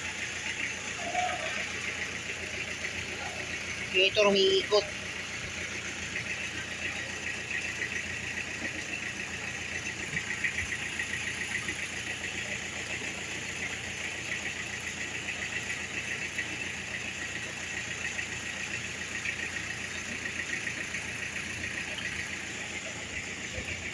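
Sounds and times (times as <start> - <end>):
engine idling with ticking: 0.0 - 23.9.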